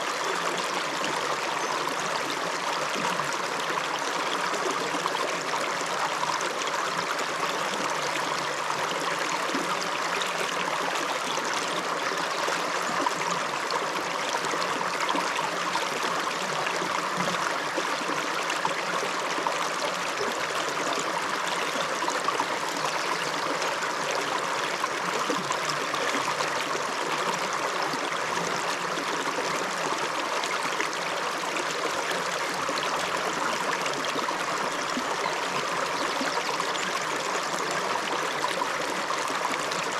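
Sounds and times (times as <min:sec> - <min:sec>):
river running over stones: 0:00.0 - 0:39.9.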